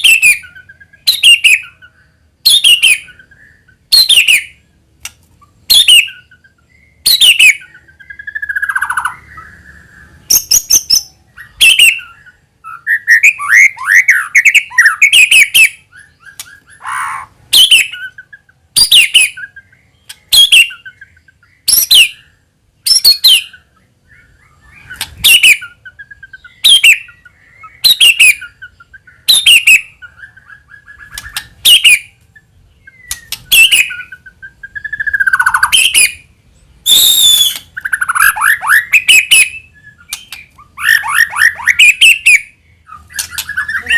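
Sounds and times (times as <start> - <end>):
warbled bird song: 0.0 - 43.9.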